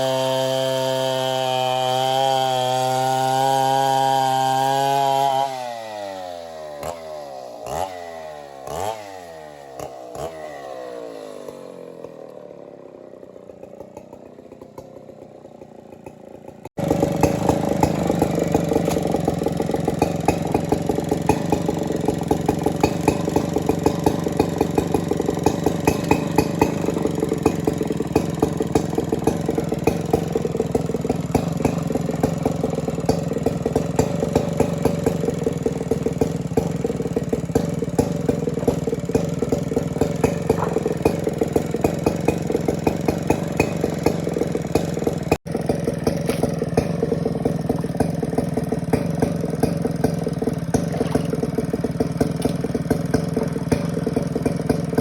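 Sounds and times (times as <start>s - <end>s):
chainsaw engine winding down: 0.0s - 55.0s
small engine idling: 0.0s - 55.0s.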